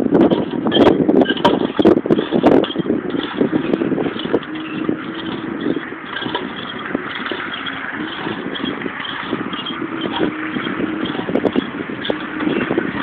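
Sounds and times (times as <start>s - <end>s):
sign creaking: 0.0s - 13.0s
wind rushing: 0.0s - 13.0s.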